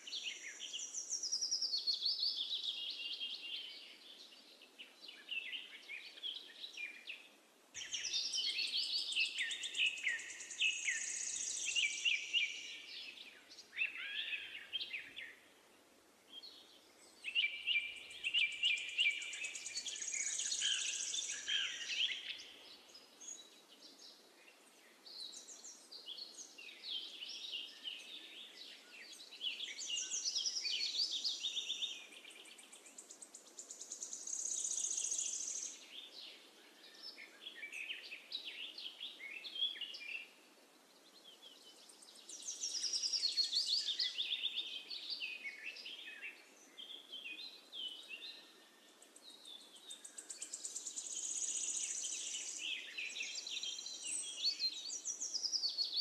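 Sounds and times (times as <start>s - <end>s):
birds chirping and singing: 7.8s - 15.4s, 16.3s - 24.1s, 25.0s - 40.3s, 41.2s - 56.0s.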